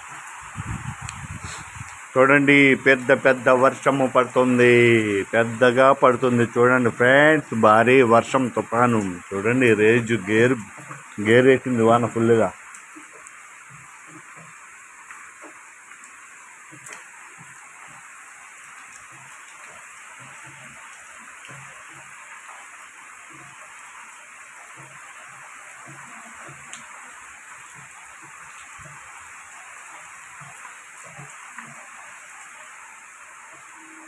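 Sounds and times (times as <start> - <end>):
heavy rain falling: 0.0 - 34.0
drops ticking nearby: 0.2 - 33.8.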